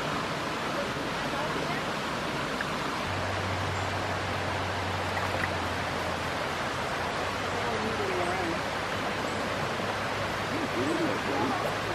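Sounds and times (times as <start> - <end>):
stream water running over rocks: 0.0 - 11.9.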